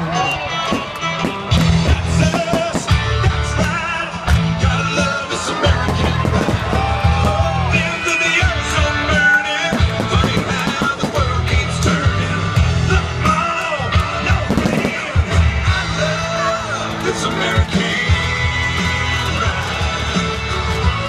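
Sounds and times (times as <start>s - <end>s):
rock song with singer: 0.0s - 21.0s.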